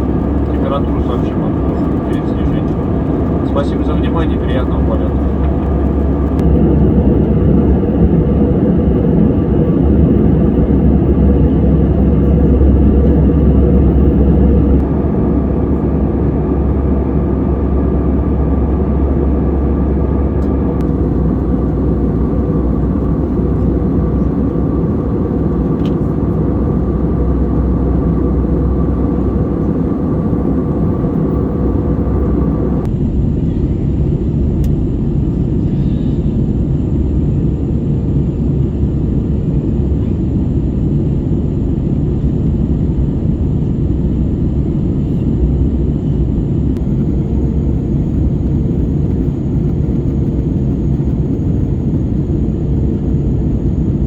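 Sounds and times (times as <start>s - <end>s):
aircraft cabin roar: 0.0s - 54.0s.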